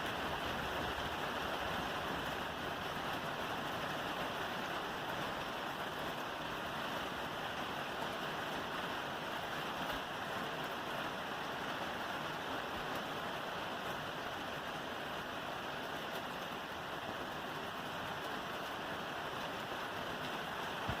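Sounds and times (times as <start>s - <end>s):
rain on a roof: 0.0s - 21.0s.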